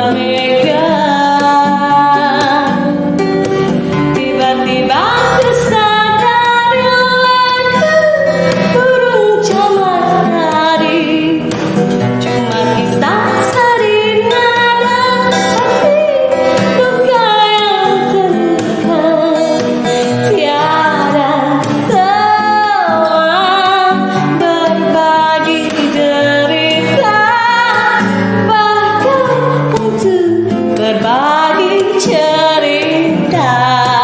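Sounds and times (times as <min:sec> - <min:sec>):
pop music accompaniment: 0:00.0 - 0:34.0
woman singing with vibrato: 0:00.0 - 0:34.0.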